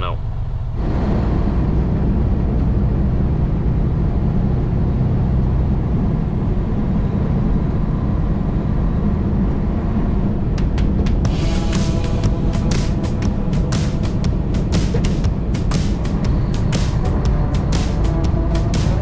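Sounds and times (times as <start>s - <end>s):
diesel engine drone: 0.0s - 19.0s
tyre and road noise: 0.0s - 19.0s.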